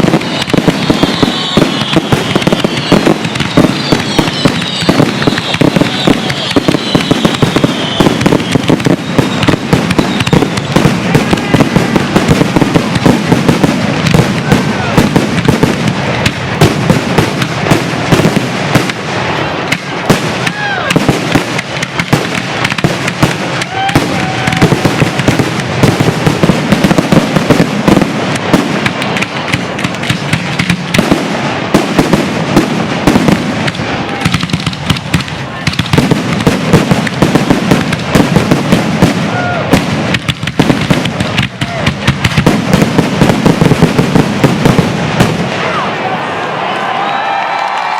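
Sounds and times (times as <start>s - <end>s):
fireworks bursts and bangs: 0.0s - 47.9s
fireworks whistling: 0.0s - 47.9s.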